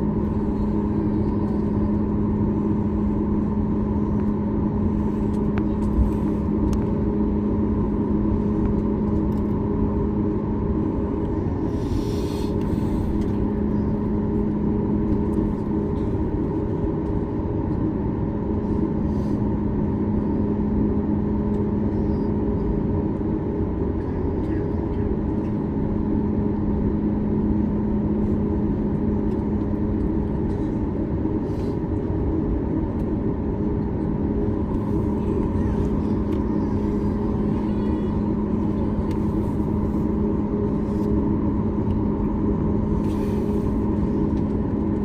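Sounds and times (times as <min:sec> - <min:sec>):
jet engine drone in cabin: 0:00.0 - 0:45.0.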